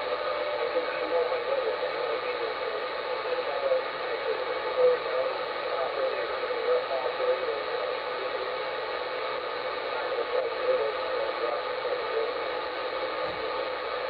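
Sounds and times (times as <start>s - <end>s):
faint wavering radio signals: 0.0s - 14.0s
radio static hiss: 0.0s - 14.0s.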